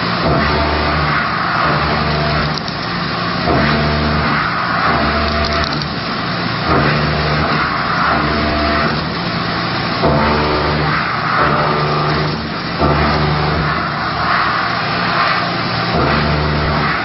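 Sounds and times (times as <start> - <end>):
machine noisy hiss: 0.0 - 17.0
machining spindle tones: 0.0 - 17.0.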